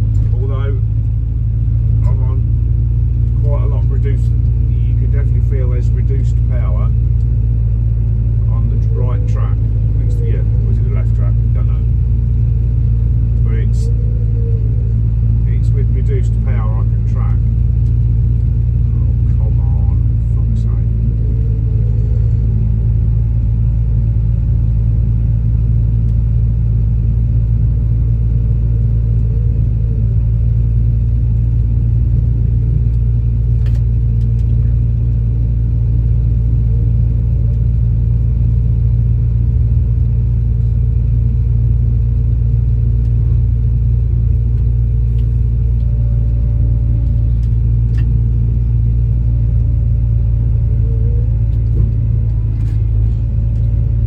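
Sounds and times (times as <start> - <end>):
faint higher whine: 0.0 - 54.0
winch engine deep drone: 0.0 - 54.0.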